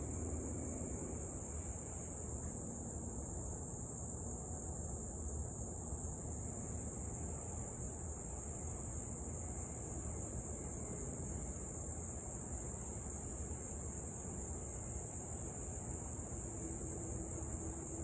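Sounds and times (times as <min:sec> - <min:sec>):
high-pitched insect chorus: 0:00.0 - 0:05.6, 0:06.5 - 0:18.0.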